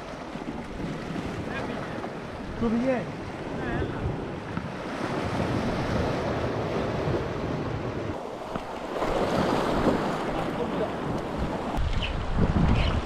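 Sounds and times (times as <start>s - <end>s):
wind buffeting microphone: 0.0s - 8.2s, 9.0s - 13.0s
waves on rocky shore: 0.0s - 13.0s.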